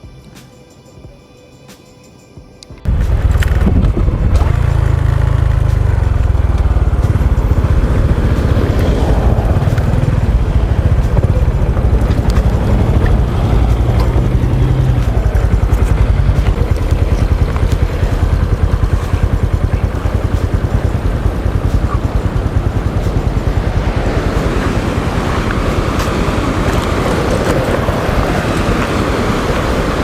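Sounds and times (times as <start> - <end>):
motorcycle engine running: 2.8 - 30.0.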